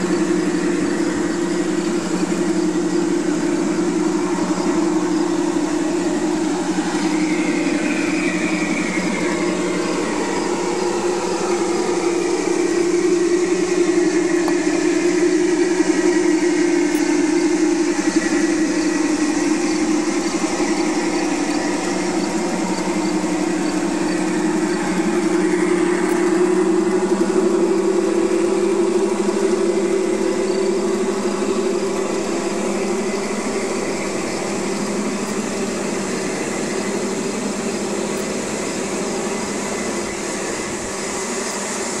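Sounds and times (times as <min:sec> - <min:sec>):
model train hum and whine: 0:00.0 - 0:42.0.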